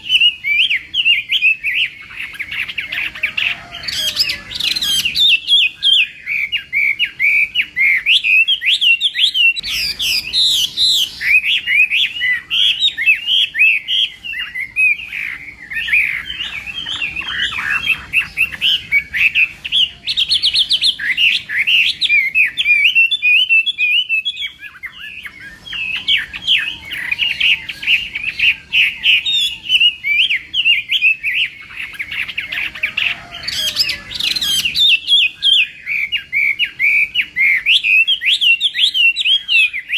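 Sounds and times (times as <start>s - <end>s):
bird singing varied whistled notes: 0.0s - 39.9s.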